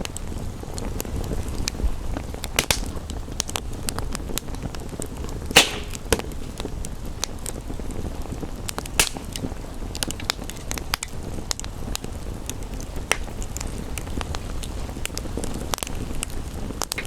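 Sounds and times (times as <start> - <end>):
rain: 0.0 - 17.0
wood fire crackling: 0.0 - 17.0
loud fire pops: 0.2 - 17.0.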